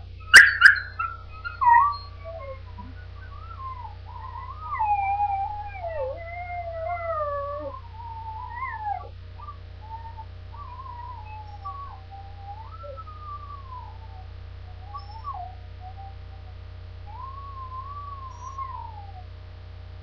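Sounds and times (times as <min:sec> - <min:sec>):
dog whining: 0:00.0 - 0:16.5, 0:17.1 - 0:19.3.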